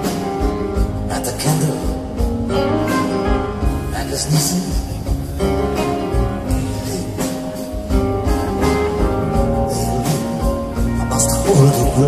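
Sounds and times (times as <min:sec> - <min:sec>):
bass: 0:00.0 - 0:12.0
drums and cymbals: 0:00.0 - 0:12.0
sustained guitar notes: 0:00.0 - 0:12.0.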